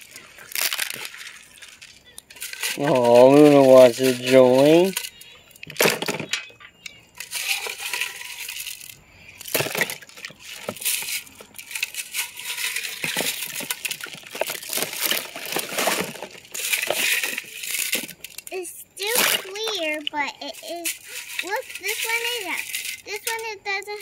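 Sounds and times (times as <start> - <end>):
rocks clicking together: 0.0 - 20.2.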